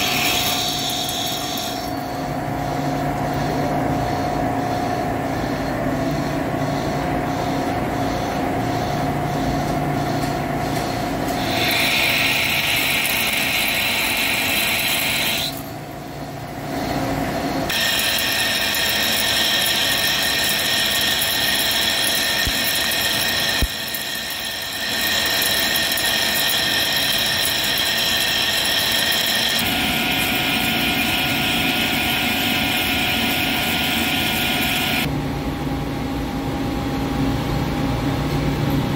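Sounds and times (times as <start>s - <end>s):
lathe machining metal: 0.0s - 35.1s.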